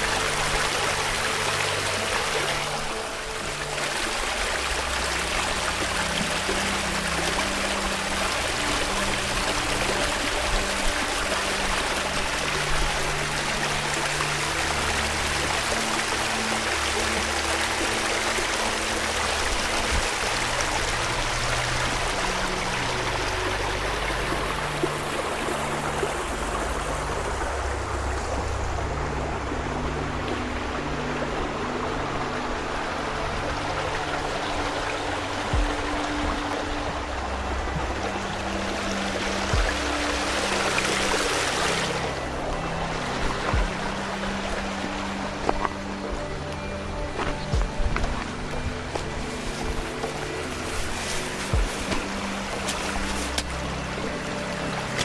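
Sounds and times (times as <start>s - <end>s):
rushing water: 0.0s - 55.0s
soft background music: 0.0s - 55.0s.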